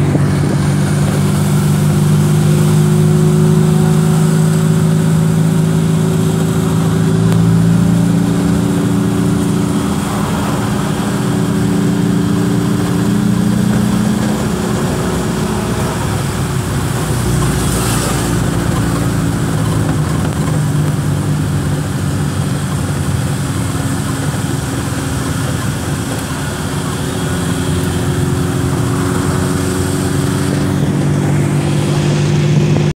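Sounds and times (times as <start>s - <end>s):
van engine and road hum: 0.0s - 32.9s.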